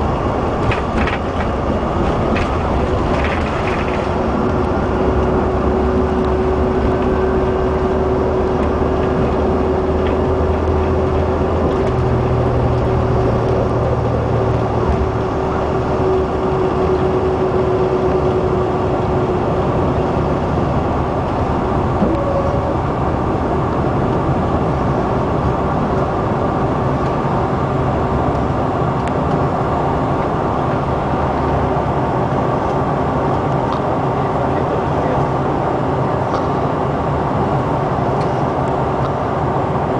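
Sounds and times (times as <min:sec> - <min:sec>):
steady whine: 0:00.0 - 0:35.4.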